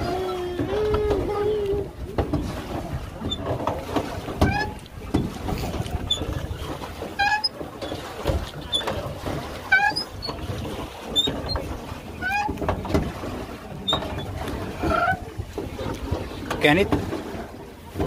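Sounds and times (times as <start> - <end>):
rowboat knocking: 0.0 - 18.0
water noise: 0.0 - 18.0.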